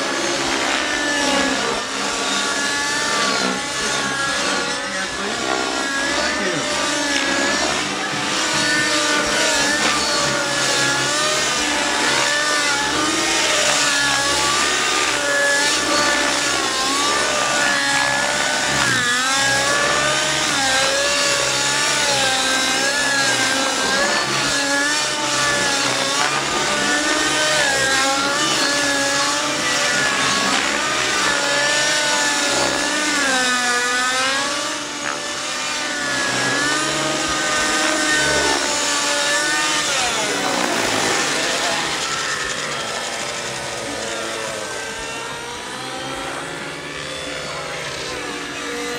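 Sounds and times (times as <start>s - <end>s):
model helicopter engine and rotors: 0.0s - 48.9s.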